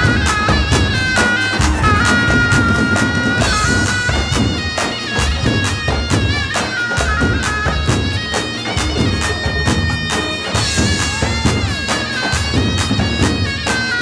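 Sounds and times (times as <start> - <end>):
large drums beaten with sticks: 0.0 - 14.0
reedy wind instrument melody: 0.0 - 14.0.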